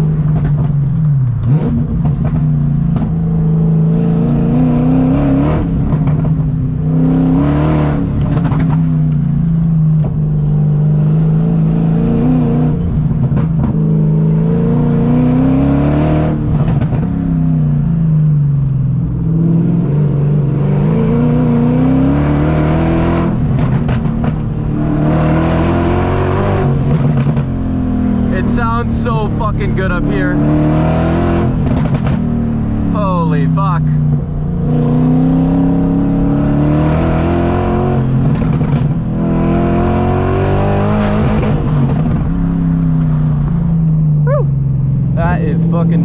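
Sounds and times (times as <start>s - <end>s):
loud car engine revving: 0.0s - 46.0s.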